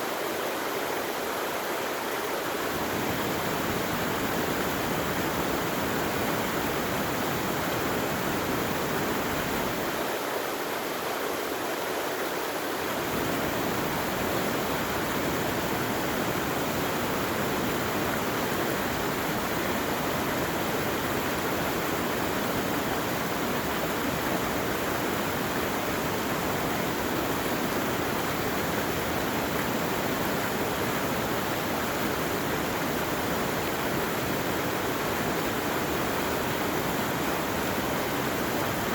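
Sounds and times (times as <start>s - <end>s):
rushing flowing water: 0.0s - 38.9s.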